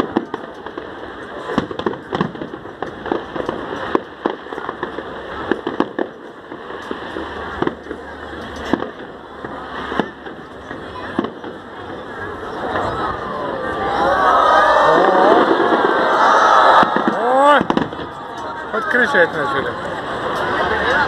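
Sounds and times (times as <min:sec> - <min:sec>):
fireworks bangs and pops: 0:00.0 - 0:21.0
fireworks crackling: 0:00.0 - 0:21.0.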